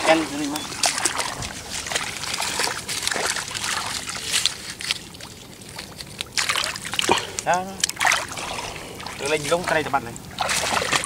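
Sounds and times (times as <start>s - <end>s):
muddy water trickling and sloshing: 0.0s - 11.0s
wet grass rustling and clicking: 0.0s - 11.0s.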